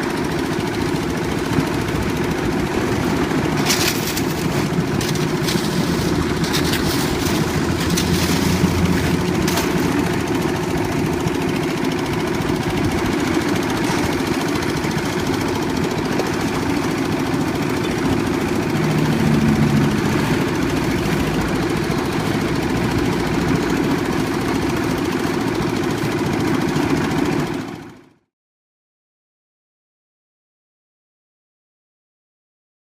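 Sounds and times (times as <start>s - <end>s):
diesel engine running: 0.0s - 28.2s.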